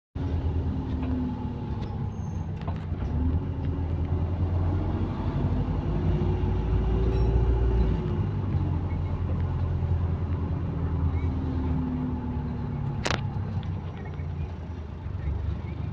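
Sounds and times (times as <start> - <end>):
bus engine low drone: 0.2 - 15.9.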